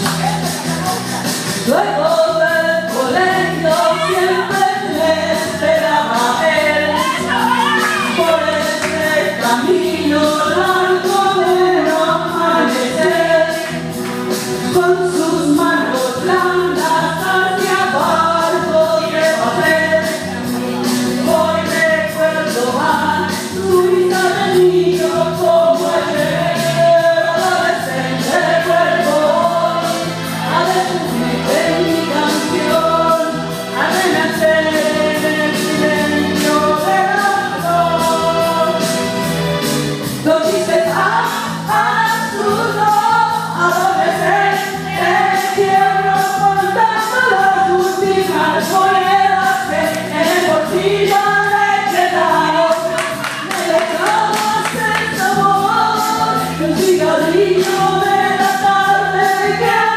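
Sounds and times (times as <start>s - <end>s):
backing music with steady beat: 0.0s - 59.9s
woman singing into microphone: 0.0s - 59.9s.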